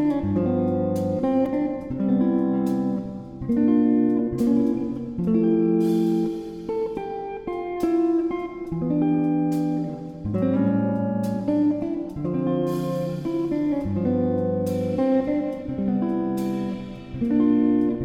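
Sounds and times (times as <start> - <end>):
plucked guitar tune: 0.0 - 18.0.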